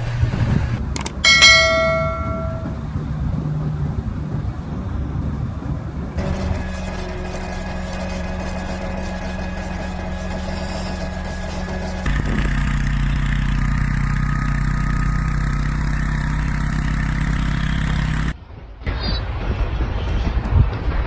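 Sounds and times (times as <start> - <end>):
deep loud engine: 0.0 - 18.4
vehicle engines running: 0.0 - 18.4.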